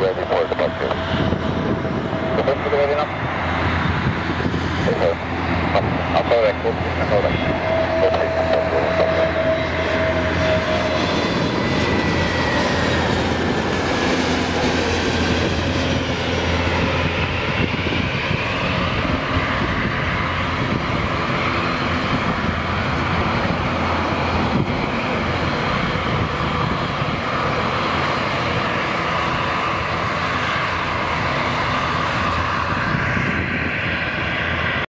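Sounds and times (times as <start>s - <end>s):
jet engine whine: 0.0s - 34.9s
steady jet noise: 0.0s - 34.9s.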